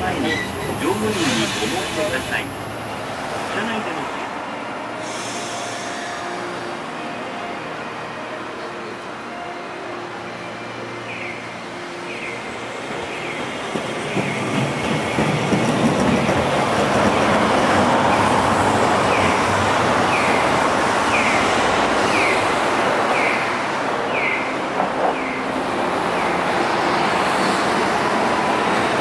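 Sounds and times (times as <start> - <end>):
tram rumble and wheel noise: 0.0 - 29.0.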